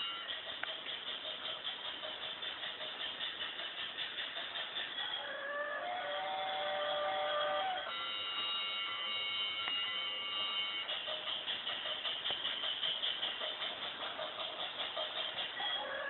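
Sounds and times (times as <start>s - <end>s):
toy train whirring and clattering: 0.0s - 16.0s.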